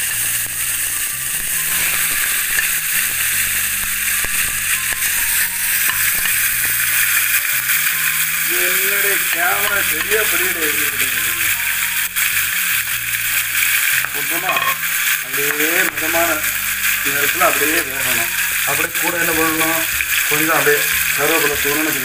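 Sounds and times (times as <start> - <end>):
prawn heads sizzling in oil: 0.0 - 22.0
spatula stirring in pan: 0.0 - 22.0.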